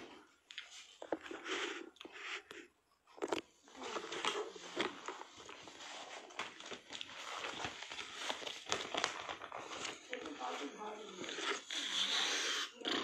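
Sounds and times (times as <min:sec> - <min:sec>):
rustling and handling noise: 0:00.0 - 0:11.6.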